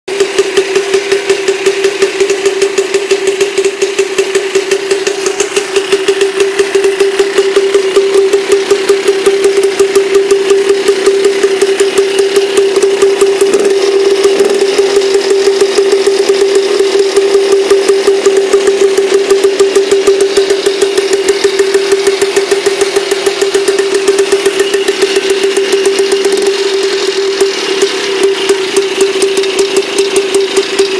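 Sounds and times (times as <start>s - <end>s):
tractor engine idling: 0.1s - 30.9s.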